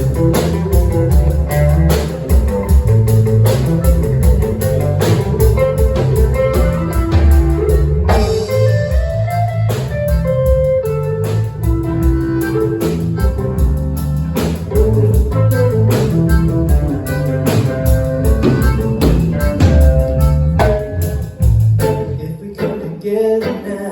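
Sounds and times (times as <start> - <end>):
drum kit steady beat: 0.0 - 22.2
bass: 0.0 - 22.4
guitar: 0.0 - 23.9.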